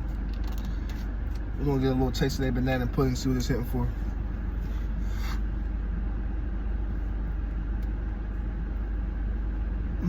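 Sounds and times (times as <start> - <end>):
vehicle idling rumble: 0.0 - 10.0.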